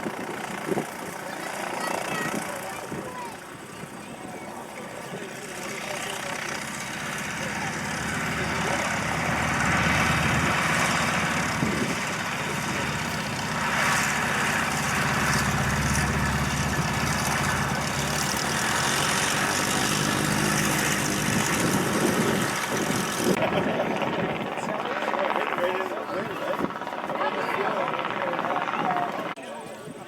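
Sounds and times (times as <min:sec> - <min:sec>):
propeller aircraft engine running: 0:00.0 - 0:29.4.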